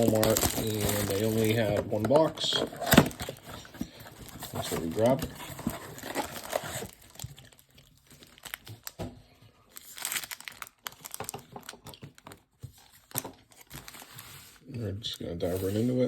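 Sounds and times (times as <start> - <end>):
plastic wrapping crinkling and tearing: 0.0 - 9.1, 9.7 - 14.4.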